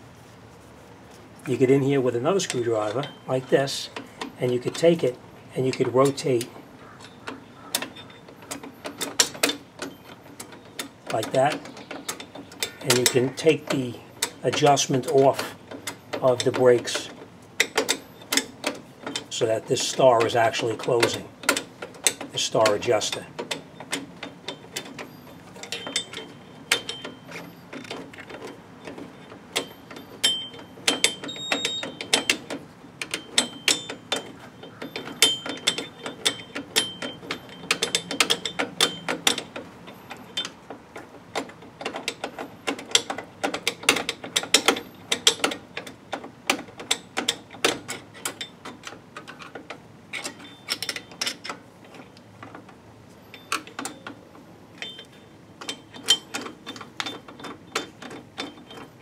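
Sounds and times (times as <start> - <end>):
brake adjuster teeth clicking: 3.9 - 59.0.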